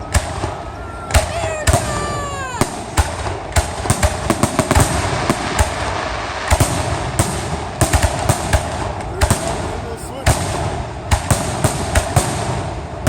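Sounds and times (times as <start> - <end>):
fireworks bangs: 0.0 - 13.0
fireworks crackle: 0.0 - 13.0.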